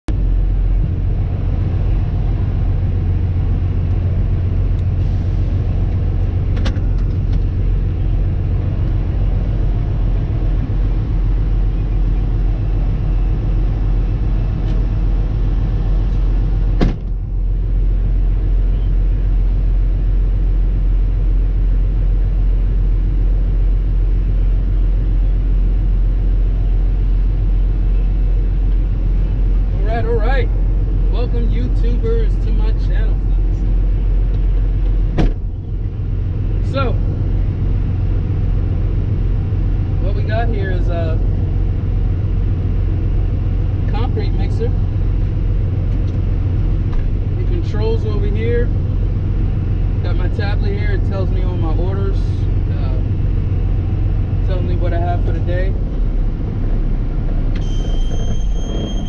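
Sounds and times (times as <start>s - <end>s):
diesel engine idling: 0.1s - 59.0s.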